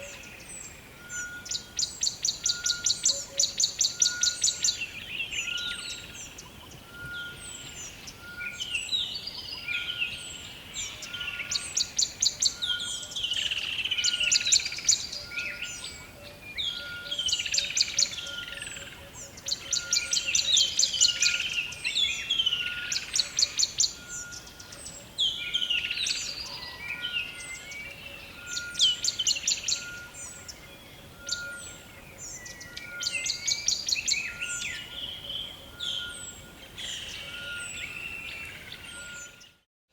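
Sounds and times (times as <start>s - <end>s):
bird chorus: 0.0s - 39.7s.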